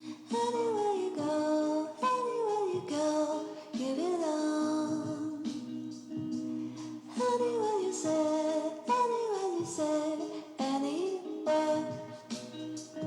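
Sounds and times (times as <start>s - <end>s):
song with gliding vocal melody: 0.0s - 13.0s.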